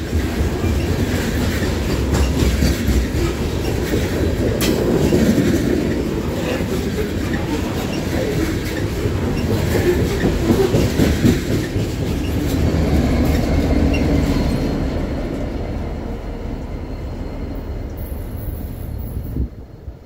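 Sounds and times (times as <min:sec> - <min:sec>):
train wheels clattering over rails: 0:00.0 - 0:16.2
diesel locomotive passing: 0:00.0 - 0:20.0.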